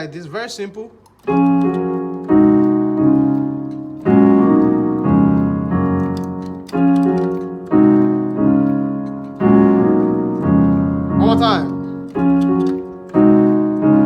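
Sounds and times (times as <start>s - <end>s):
piano block chords: 0.0s - 14.0s.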